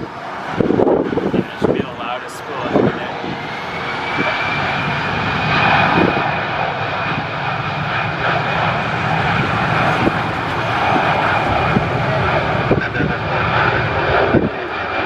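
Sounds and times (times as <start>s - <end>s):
high whine: 0.0s - 15.0s
jet engines at takeoff thrust: 0.0s - 15.0s.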